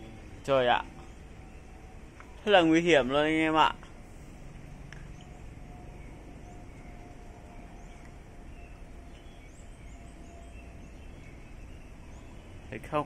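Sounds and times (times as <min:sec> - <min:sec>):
low rumble: 0:00.0 - 0:12.8
faint bird chirps: 0:00.0 - 0:13.0.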